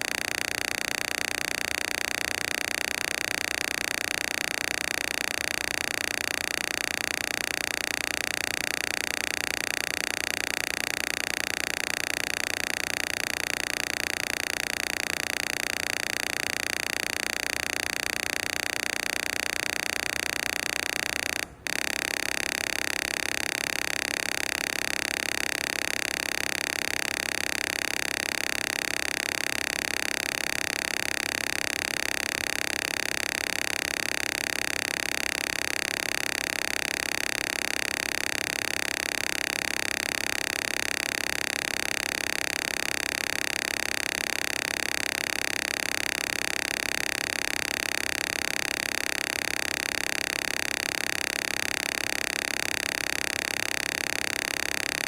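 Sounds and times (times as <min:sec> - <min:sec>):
synthesized held tones: 0:00.0 - 0:55.0.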